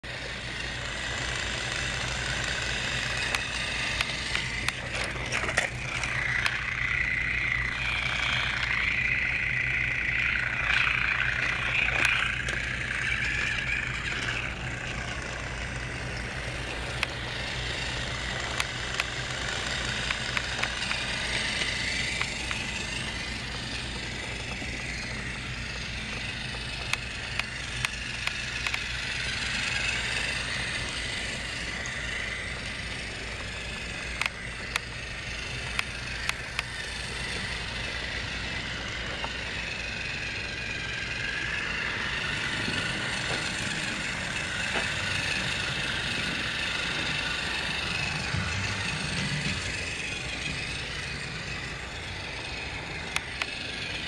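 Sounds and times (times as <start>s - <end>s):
toy train motor whine: 0.0s - 54.0s
wheels clicking on track: 0.0s - 54.0s.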